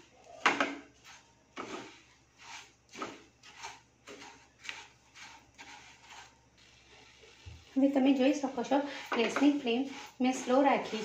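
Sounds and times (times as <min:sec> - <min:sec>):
spatula scraping sugar in pan: 0:00.0 - 0:11.0.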